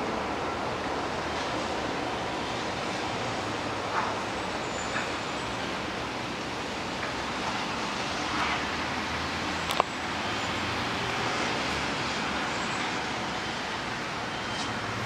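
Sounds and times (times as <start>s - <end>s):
traffic on wet roads: 0.0s - 15.0s.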